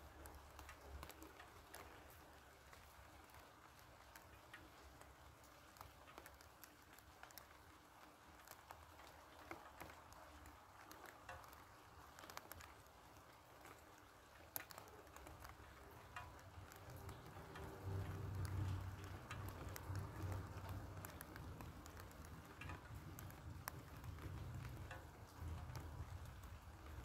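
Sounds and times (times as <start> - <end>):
raindrops pattering on leaves: 0.0 - 27.0
soft rain hiss: 0.0 - 27.0.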